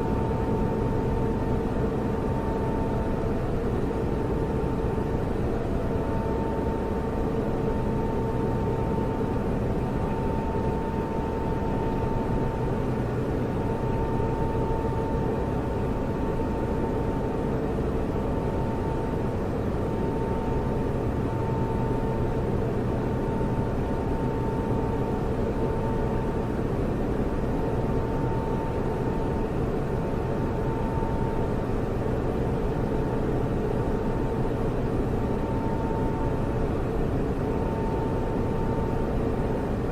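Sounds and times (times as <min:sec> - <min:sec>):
cooling fans whirring: 0:00.0 - 0:39.9
steady tonal hum: 0:00.0 - 0:39.9.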